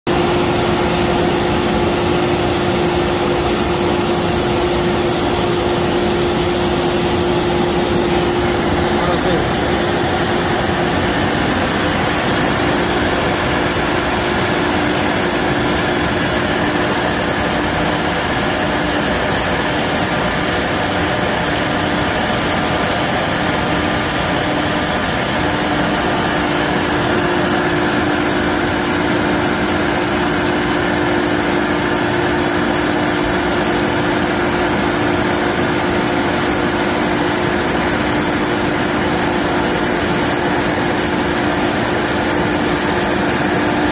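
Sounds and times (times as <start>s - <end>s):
dust extraction hum: 0.1s - 43.9s
router spindle cutting plastic: 0.1s - 43.9s.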